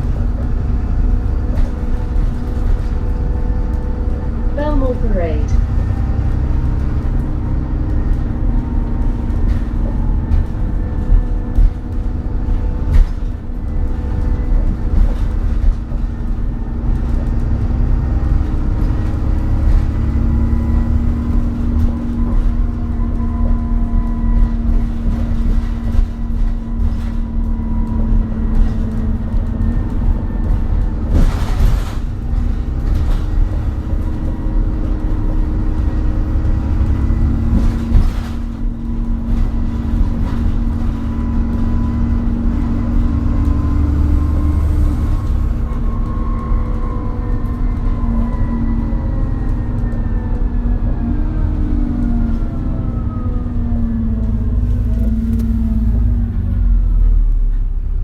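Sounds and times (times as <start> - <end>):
bus drivetrain rumble: 0.0 - 58.0.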